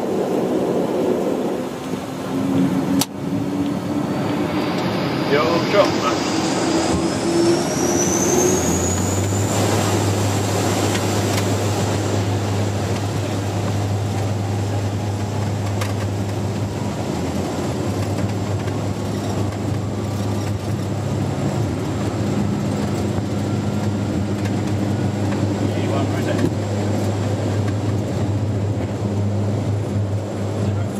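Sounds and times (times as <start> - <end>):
rushing air: 0.0 - 30.8
aircraft wheel noise: 0.0 - 30.9
propeller drone: 0.0 - 30.9.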